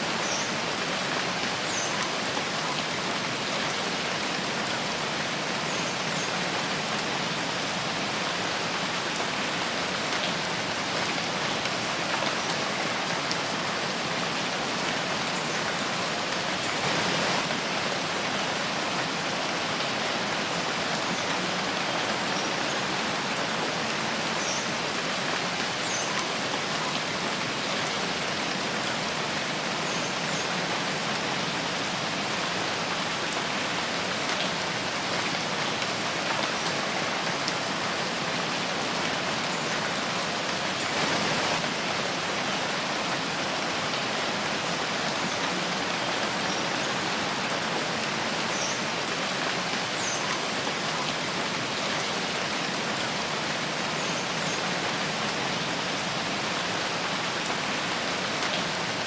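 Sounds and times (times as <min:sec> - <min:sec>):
rain falling through forest: 0:00.0 - 0:59.0.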